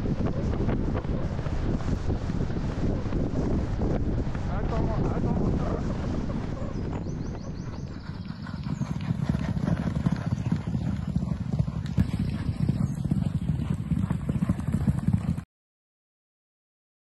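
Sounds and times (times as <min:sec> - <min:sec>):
horses galloping on sand: 0:00.0 - 0:15.4.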